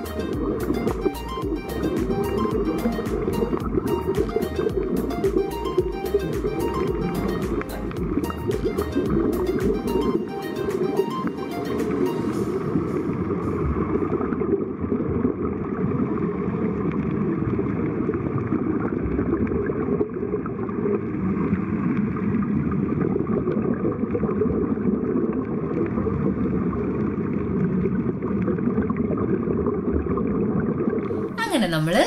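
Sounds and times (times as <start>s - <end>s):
underwater rushing and bubbling: 0.0s - 32.0s.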